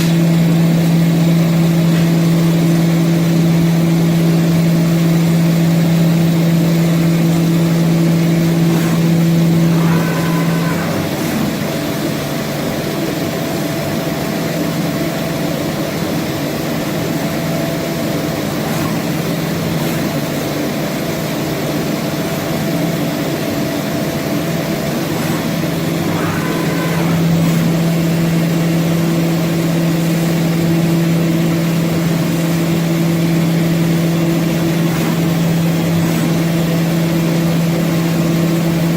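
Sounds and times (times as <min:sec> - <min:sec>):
woodworking machine humming: 0:00.0 - 0:13.5, 0:16.7 - 0:38.9
machine whine: 0:00.0 - 0:38.9.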